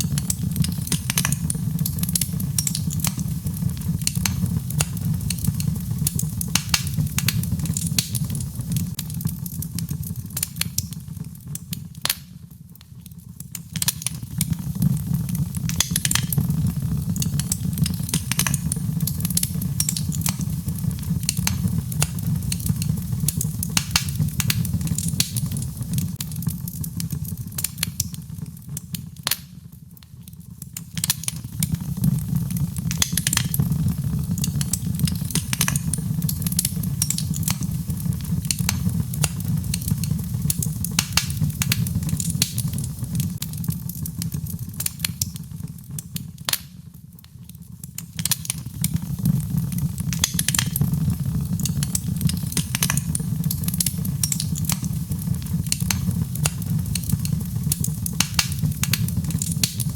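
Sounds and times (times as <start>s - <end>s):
low rumble of flames: 0.0s - 47.2s, 47.8s - 59.9s
fire crackling and popping: 0.0s - 59.9s.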